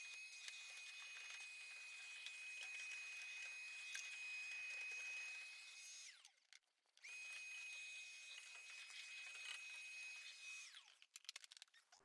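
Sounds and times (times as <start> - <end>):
shop vacuum motor whining: 0.0 - 6.4, 7.0 - 10.9.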